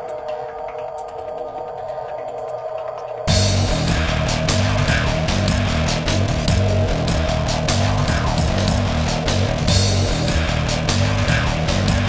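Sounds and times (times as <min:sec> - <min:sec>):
droning electronic tone: 0:00.0 - 0:12.0.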